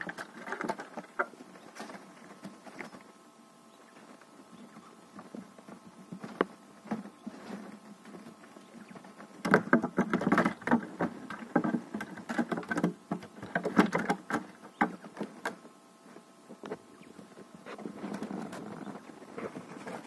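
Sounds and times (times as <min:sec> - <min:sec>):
quails tapping and scratching cardboard: 0:00.0 - 0:20.0.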